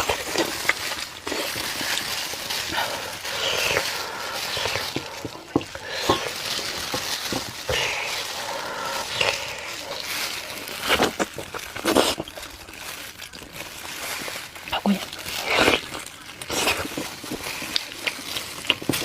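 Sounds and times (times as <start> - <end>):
person chewing and slurping: 0.0 - 19.0.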